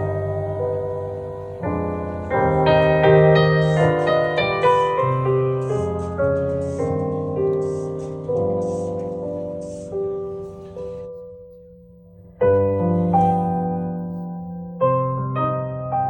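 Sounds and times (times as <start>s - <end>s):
piano chords with slow melody: 0.0s - 16.0s.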